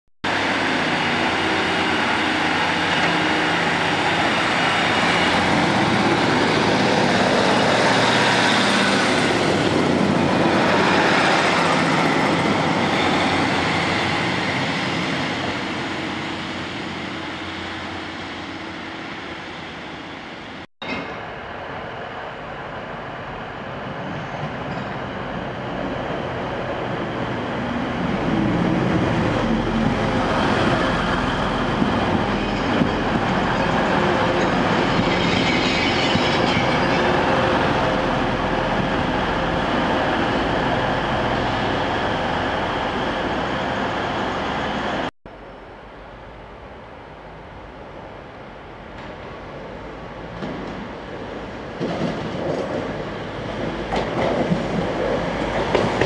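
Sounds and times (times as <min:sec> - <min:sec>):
diesel train approaching: 0:00.2 - 0:56.0.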